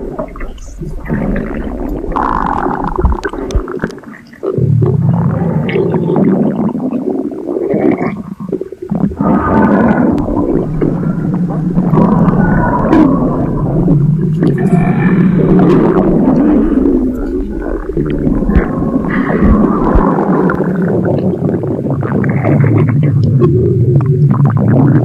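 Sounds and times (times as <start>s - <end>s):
stomach rumbling and gurgling: 0.0s - 25.0s.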